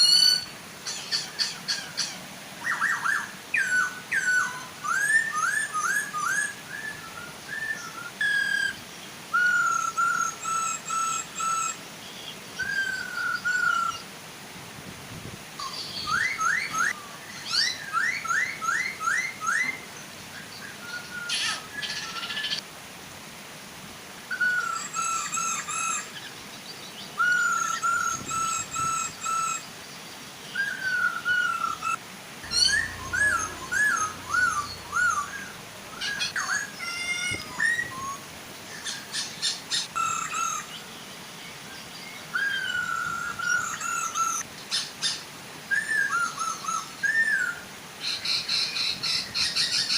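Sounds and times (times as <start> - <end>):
birds singing whistled phrases: 0.0 - 14.1, 15.6 - 22.6, 24.3 - 49.9
waterfall hiss: 0.0 - 49.9.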